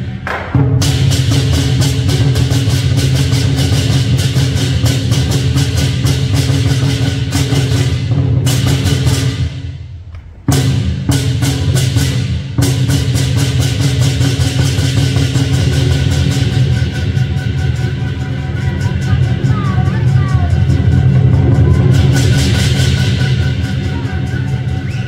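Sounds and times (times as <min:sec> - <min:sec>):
big drum beating: 0:00.0 - 0:25.0
cymbals clashing: 0:00.0 - 0:25.0.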